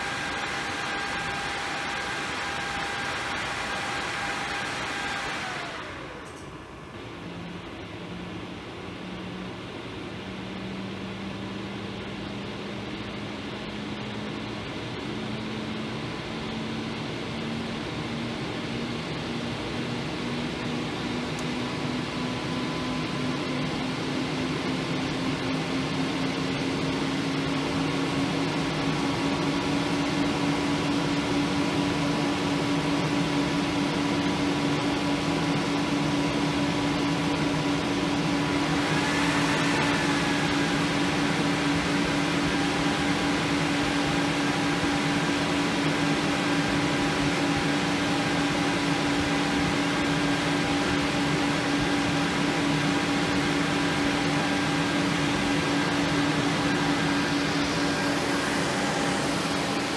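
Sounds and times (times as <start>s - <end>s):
computer fans rushing air: 0.0s - 59.9s
constant low hum: 5.4s - 59.9s.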